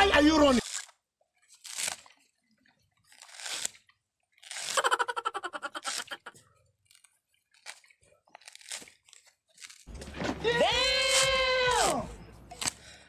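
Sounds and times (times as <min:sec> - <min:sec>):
coconut fibres ripping: 0:00.4 - 0:02.3, 0:03.0 - 0:13.0.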